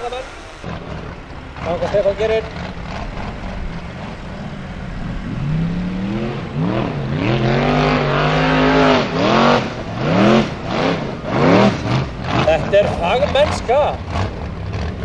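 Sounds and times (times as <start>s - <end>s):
buggy engine revving hard: 0.0s - 15.0s.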